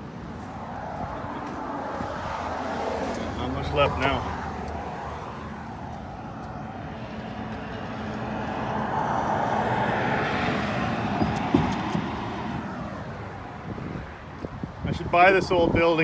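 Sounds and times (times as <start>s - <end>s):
vehicle passing by: 0.2s - 14.8s.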